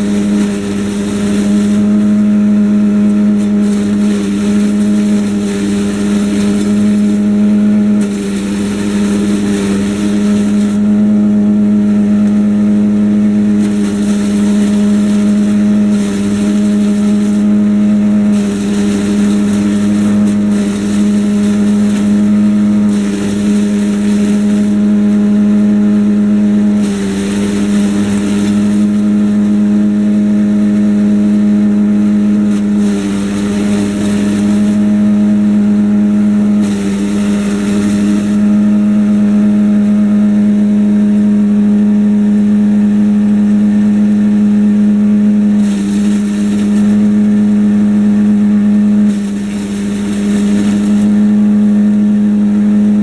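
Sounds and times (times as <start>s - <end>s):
chipper chipping and blowing: 0.0s - 53.0s
tractor engine running: 0.0s - 53.0s.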